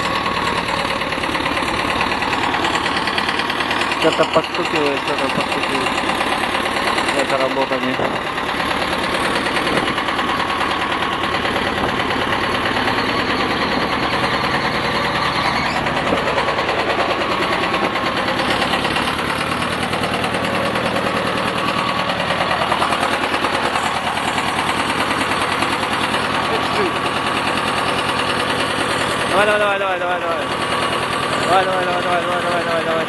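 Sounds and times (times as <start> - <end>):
light engine tapping: 0.0 - 13.0, 15.5 - 33.0
diesel engine idling clatter: 0.0 - 33.0.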